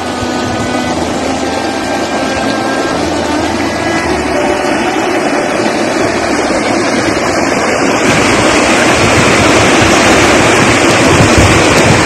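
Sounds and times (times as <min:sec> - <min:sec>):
floodwater rushing: 0:00.0 - 0:12.0
wind buffeting microphone: 0:00.0 - 0:12.0.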